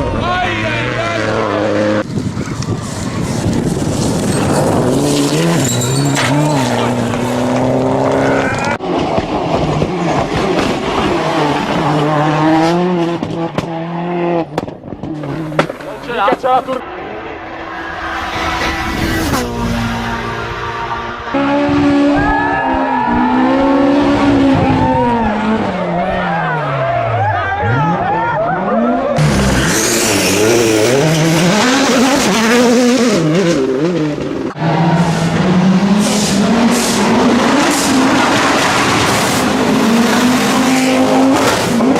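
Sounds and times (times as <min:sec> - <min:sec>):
rally car engines at full throttle: 0:00.0 - 0:41.9
car accelerating through gears: 0:00.9 - 0:15.8, 0:16.8 - 0:41.9.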